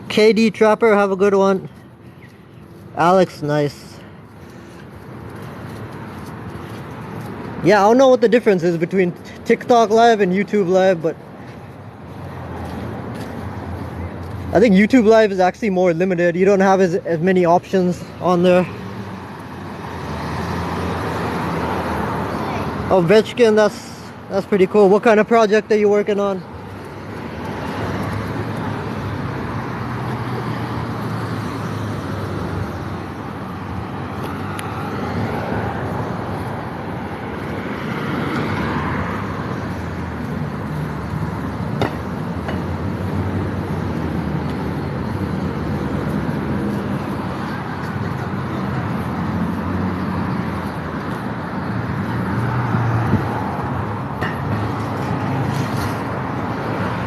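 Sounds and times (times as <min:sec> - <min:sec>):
cars passing: 0:00.0 - 0:57.0
road noise: 0:00.0 - 0:57.0
vehicle engines running: 0:00.0 - 0:57.0.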